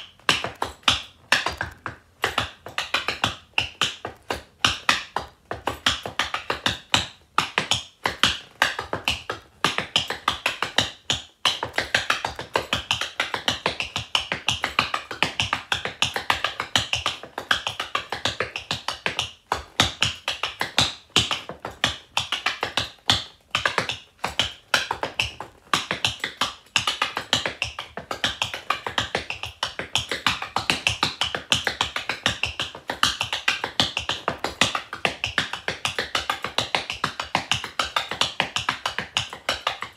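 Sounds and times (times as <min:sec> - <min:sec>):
tap shoes on wooden board: 0:00.0 - 0:39.9.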